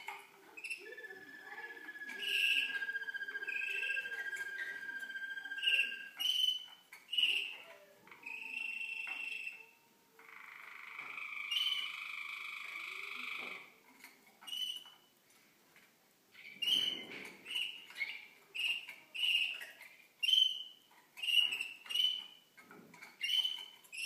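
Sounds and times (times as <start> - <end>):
canaries singing trilled phrases: 0.0 - 15.2, 16.3 - 24.0.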